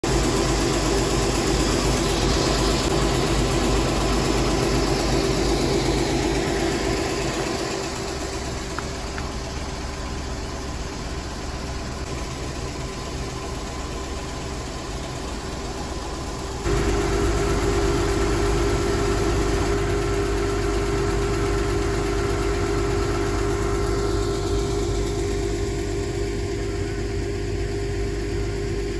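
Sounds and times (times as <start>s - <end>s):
conveying machinery droning: 0.0s - 28.9s.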